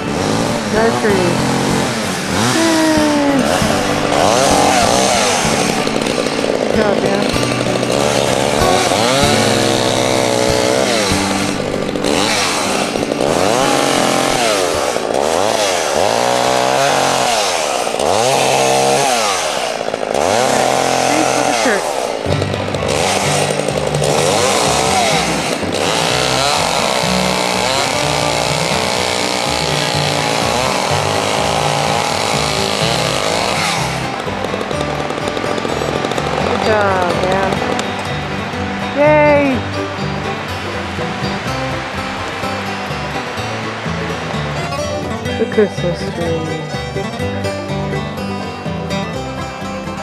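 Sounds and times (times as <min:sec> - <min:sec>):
chainsaw cutting through tree: 0:00.0 - 0:50.0.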